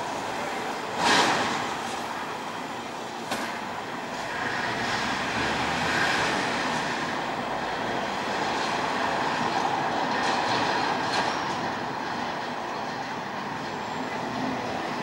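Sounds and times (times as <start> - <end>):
street traffic rumble and hiss: 0.0 - 15.0.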